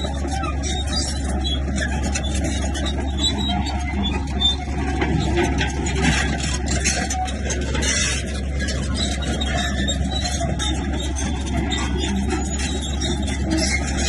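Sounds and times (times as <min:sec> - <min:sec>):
bulldozer diesel engine running: 0:00.0 - 0:14.0
metallic rattle and scraping: 0:00.0 - 0:14.0.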